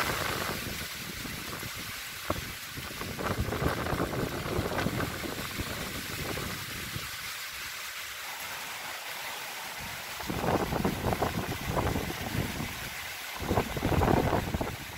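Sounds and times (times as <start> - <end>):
gusting wind buffeting microphone: 0.0 - 7.2, 9.8 - 14.9.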